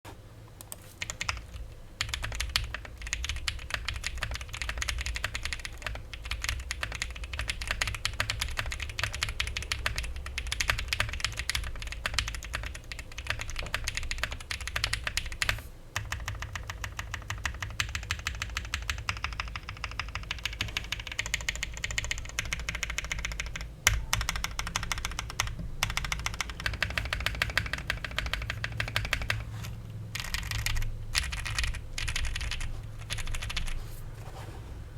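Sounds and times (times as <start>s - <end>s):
low steady hum: 0.1s - 34.9s
spacebar keystroke: 0.6s - 29.5s, 30.2s - 33.8s
mechanical keyboard typing: 0.6s - 33.8s.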